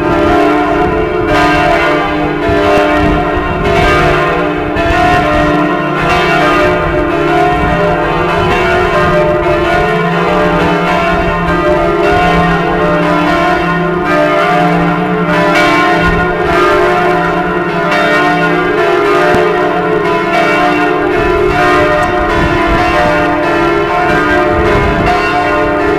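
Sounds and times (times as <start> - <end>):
church bells pealing: 0.0 - 25.9.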